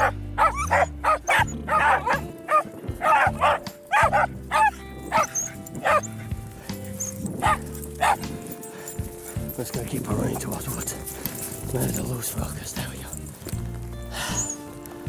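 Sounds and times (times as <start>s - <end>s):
dogs barking and yipping: 0.0s - 12.2s, 13.2s - 15.0s
background music with low notes: 0.0s - 15.0s.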